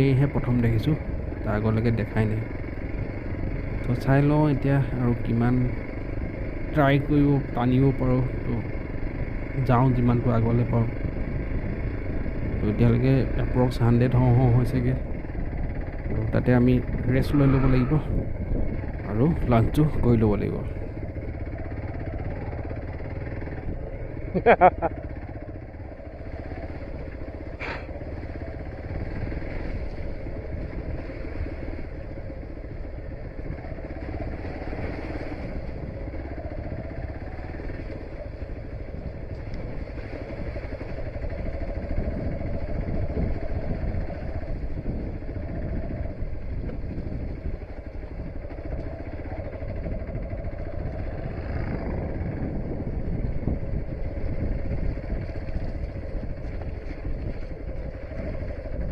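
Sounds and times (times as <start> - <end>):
low rumbling noise: 0.0 - 58.9
motorcycle engine running: 0.0 - 58.9.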